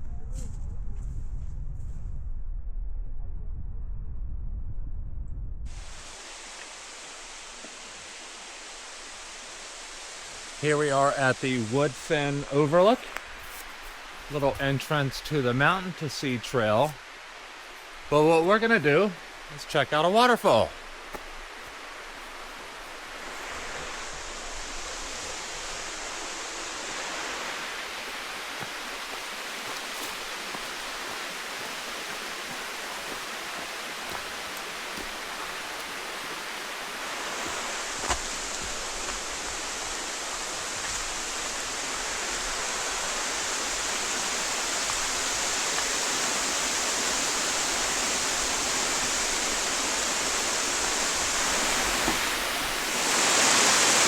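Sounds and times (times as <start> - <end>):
waterfall rushing: 5.7 - 54.0.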